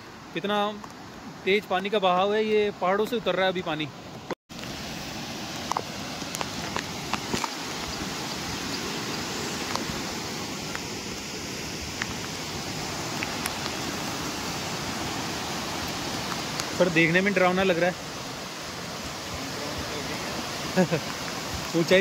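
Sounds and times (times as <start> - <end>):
stream roaring over rocks: 0.0 - 22.0.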